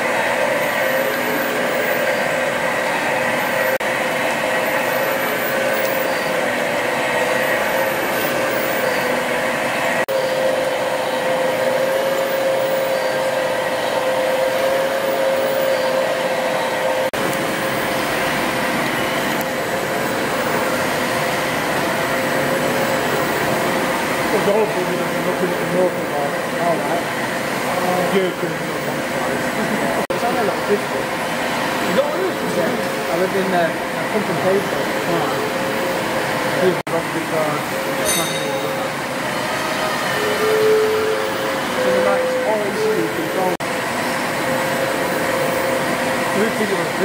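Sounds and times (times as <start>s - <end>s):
constant whine: 0.0s - 47.0s
steam engines whirring: 0.0s - 47.0s.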